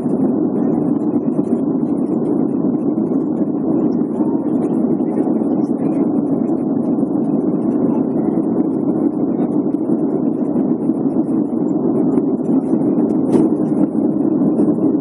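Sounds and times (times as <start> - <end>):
airliner cabin engine rush: 0.0 - 15.0.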